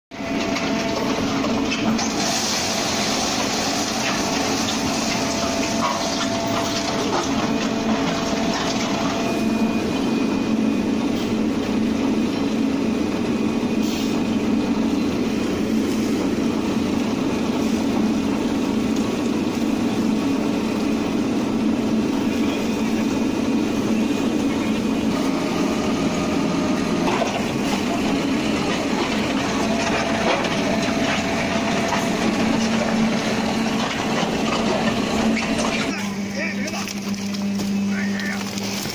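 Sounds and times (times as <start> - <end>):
heavy machinery din: 0.1 - 38.9.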